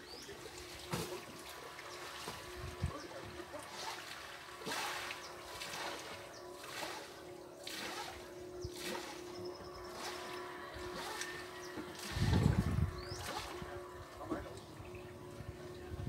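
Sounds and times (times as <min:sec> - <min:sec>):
water splashing: 0:00.0 - 0:15.9
faint steady hum: 0:00.0 - 0:16.0.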